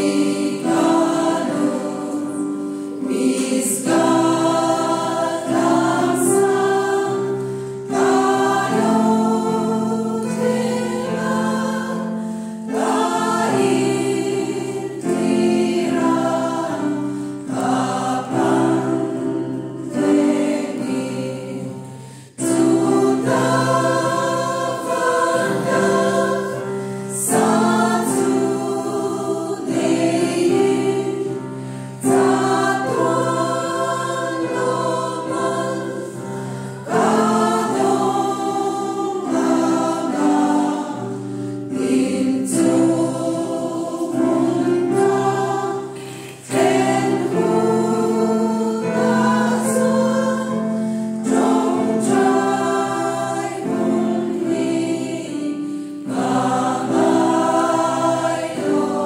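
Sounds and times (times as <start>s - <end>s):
women's choir singing a hymn: 0.0s - 59.0s.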